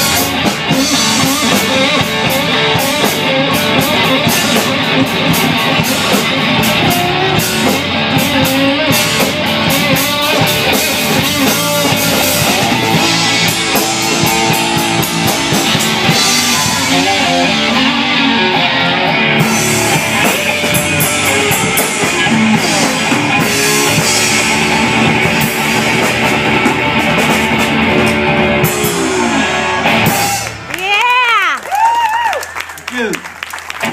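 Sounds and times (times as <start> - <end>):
slide guitar: 0.0 - 30.7
electric bass: 0.0 - 31.4
drum kit: 0.0 - 31.8.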